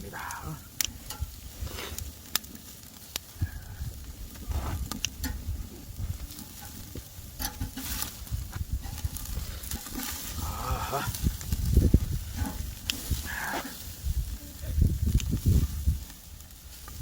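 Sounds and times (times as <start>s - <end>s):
fire crackling and popping: 0.0s - 17.0s
meat sizzling on a grill: 0.0s - 17.0s.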